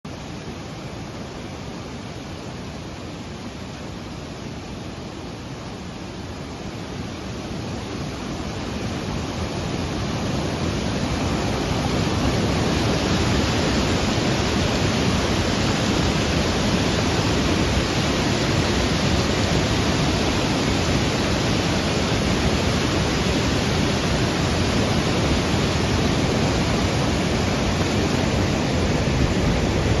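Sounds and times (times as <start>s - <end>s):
heavy rain and rushing floodwater: 0.1s - 30.0s.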